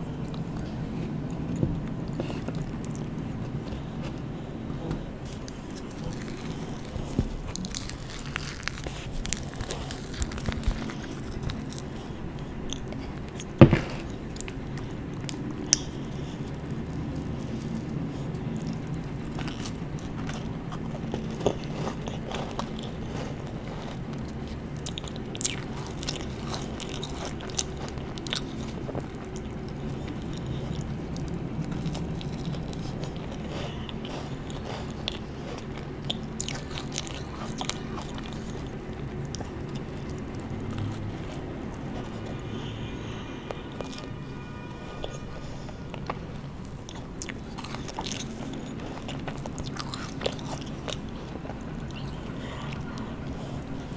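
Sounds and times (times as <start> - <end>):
biting and chewing cookie: 0.0 - 53.9.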